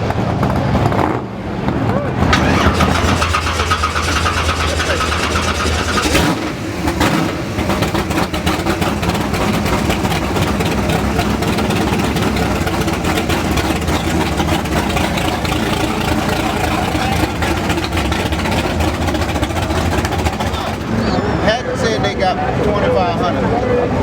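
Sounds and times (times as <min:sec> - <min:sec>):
car engine running: 0:02.1 - 0:24.0.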